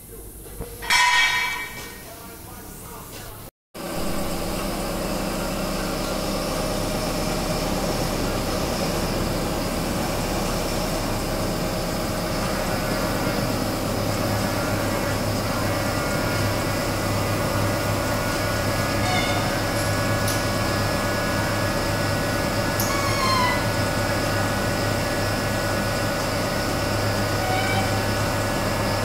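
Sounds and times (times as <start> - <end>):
diesel engine idling: 3.8 - 29.0.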